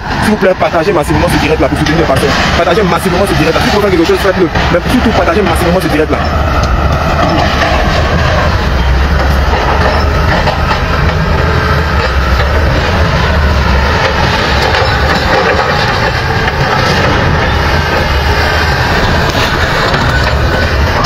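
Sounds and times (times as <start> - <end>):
diesel engine low rumble: 0.0 - 21.0.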